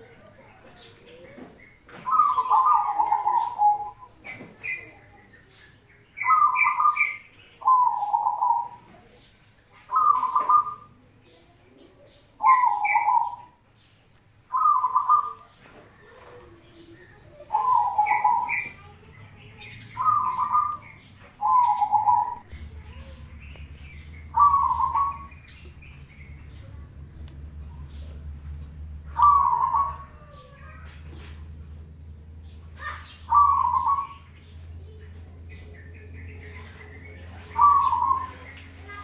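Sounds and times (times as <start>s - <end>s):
dove cooing: 0.0s - 5.1s, 6.2s - 9.2s, 9.9s - 10.9s, 11.8s - 13.6s, 14.5s - 39.0s
steady low hum: 0.0s - 39.0s.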